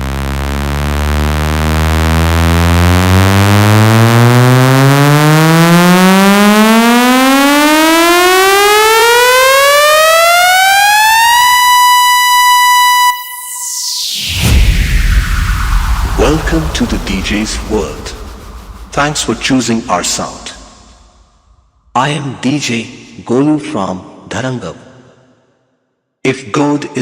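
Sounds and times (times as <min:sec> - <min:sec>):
buzzy electronic tone rising: 0:00.0 - 0:21.7.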